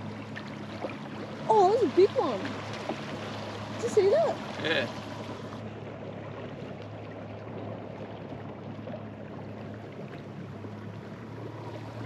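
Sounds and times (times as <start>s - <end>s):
boat motor idling: 0.0s - 12.0s
water lapping against hull: 0.0s - 12.0s.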